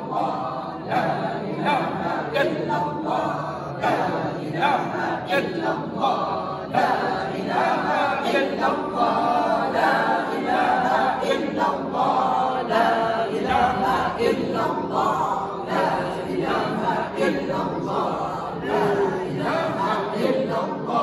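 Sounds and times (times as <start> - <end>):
group of voices chanting prayer: 0.0 - 21.0.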